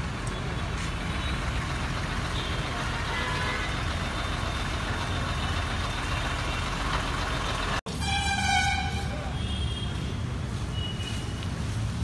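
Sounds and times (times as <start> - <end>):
heavy vehicle engines running: 0.0 - 12.0
street noise: 0.0 - 12.0.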